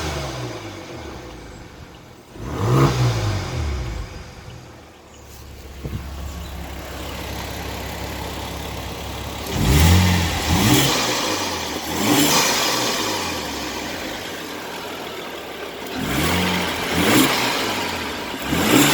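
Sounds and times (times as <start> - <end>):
car engine idling: 0.0 - 18.9
engine revs blipping: 0.0 - 18.9.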